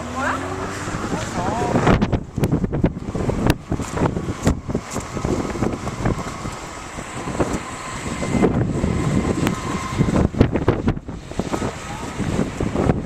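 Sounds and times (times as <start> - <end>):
street traffic: 0.0 - 13.0
wind buffeting microphone: 0.0 - 13.0.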